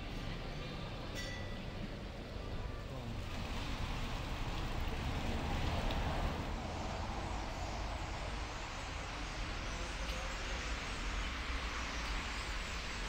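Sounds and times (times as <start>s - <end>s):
wet city ambience at night: 0.0s - 13.0s.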